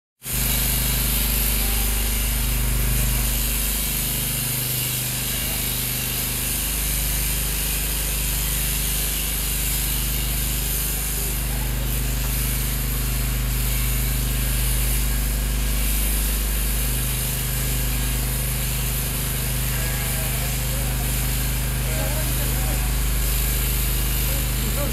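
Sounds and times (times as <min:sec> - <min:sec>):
electric clippers cutting fleece: 0:00.2 - 0:24.9.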